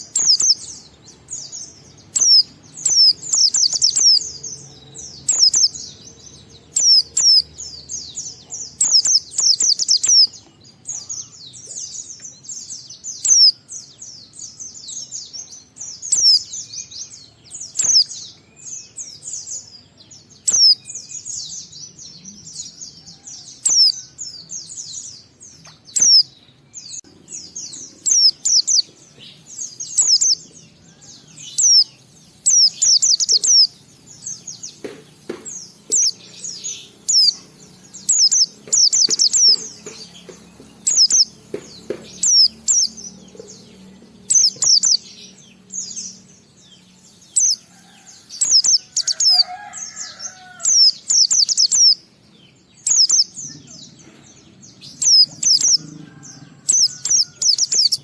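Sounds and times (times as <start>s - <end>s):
songbird chirping: 0.0s - 58.0s.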